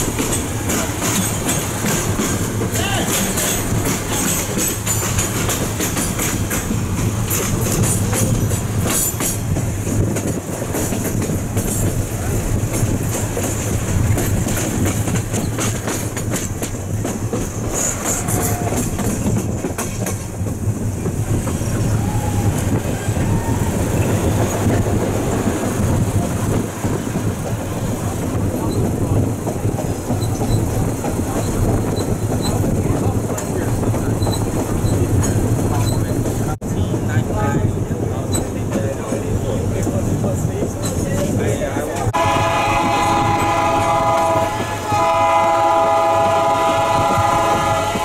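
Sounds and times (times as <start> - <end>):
clickety-clack over track: 0.0 - 48.0
train wheels rumbling: 0.0 - 48.0.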